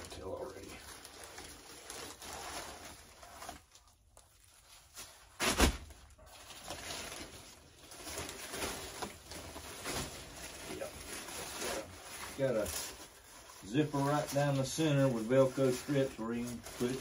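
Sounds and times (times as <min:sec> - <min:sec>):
plastic and fabric rustling: 0:00.0 - 0:17.0.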